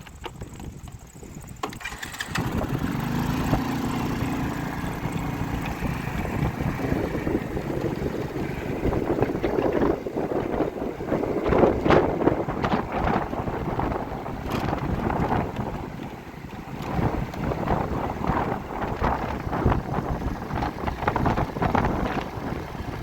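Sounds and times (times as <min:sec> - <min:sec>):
engine running: 0:00.0 - 0:23.0
wind on microphone: 0:00.0 - 0:23.0.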